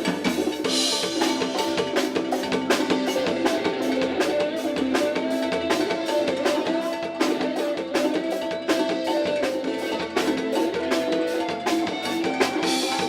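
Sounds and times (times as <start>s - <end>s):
upbeat music with drum beat: 0.0s - 13.0s.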